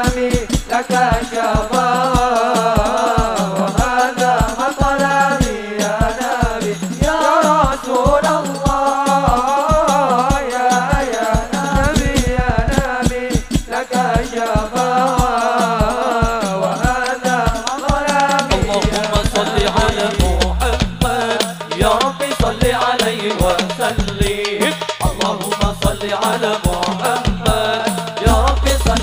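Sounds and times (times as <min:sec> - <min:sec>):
frame drums beating: 0:00.0 - 0:29.0
men singing in unison: 0:00.0 - 0:29.0.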